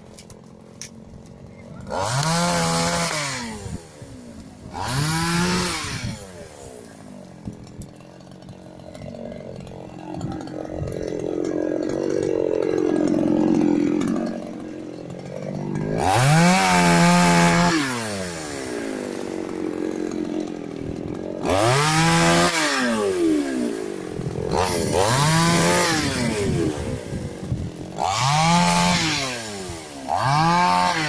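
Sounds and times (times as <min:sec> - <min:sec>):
chainsaw cutting wood: 0:00.0 - 0:31.0
chainsaw revving: 0:00.0 - 0:31.0.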